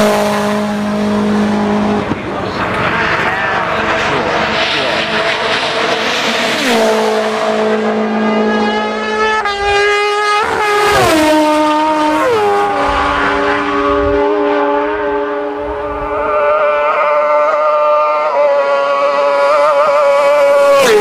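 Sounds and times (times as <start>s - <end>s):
racing engines passing: 0.0s - 21.0s.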